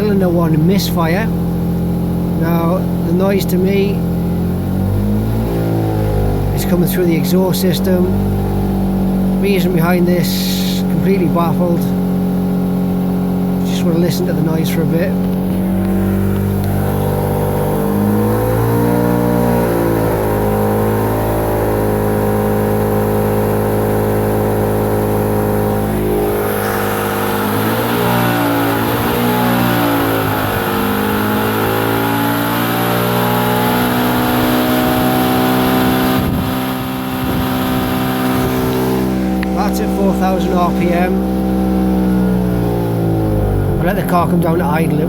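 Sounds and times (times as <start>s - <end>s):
rotary engine revving: 0.0s - 45.0s.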